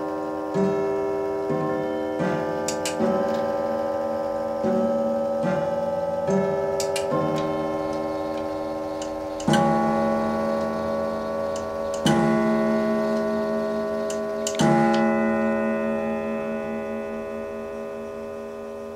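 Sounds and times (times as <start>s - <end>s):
clock gong striking: 0.0s - 18.9s.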